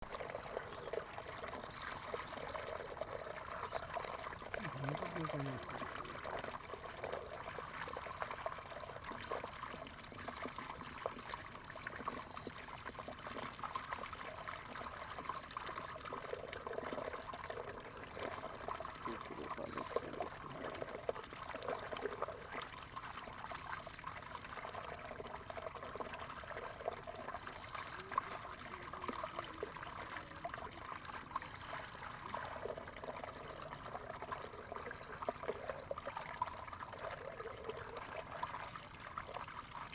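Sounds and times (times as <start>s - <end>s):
water trickling and pouring: 0.0s - 39.9s.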